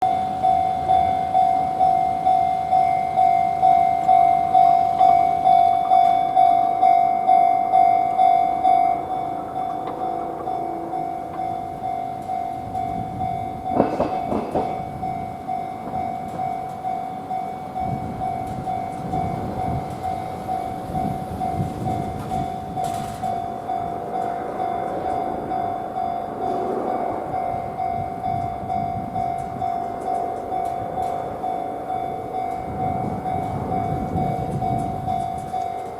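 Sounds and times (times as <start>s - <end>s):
level-crossing warning bell: 0.0s - 35.9s
tram rumbling along rails: 0.0s - 35.9s.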